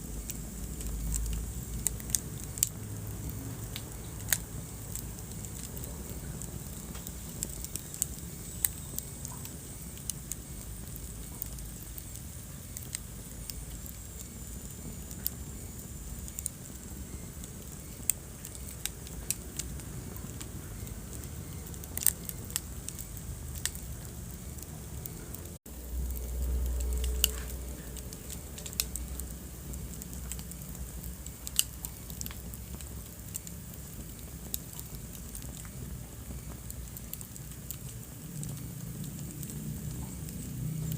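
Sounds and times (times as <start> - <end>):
low rumble of flames: 0.0 - 40.9
fire pops and snaps: 0.1 - 40.9.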